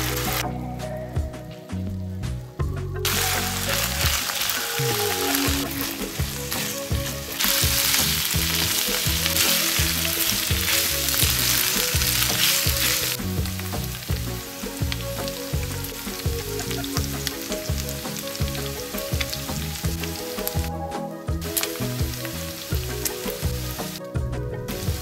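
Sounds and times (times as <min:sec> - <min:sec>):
meat and onion sizzling: 0:00.0 - 0:00.4, 0:03.0 - 0:24.0, 0:24.6 - 0:25.0.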